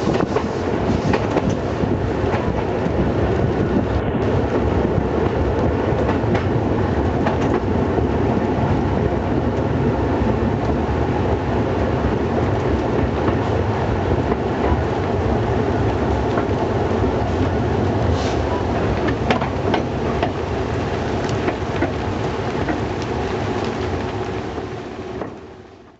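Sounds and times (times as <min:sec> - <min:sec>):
wheels clacking over rail joints: 0:00.0 - 0:25.6
train running noise: 0:00.0 - 0:25.9.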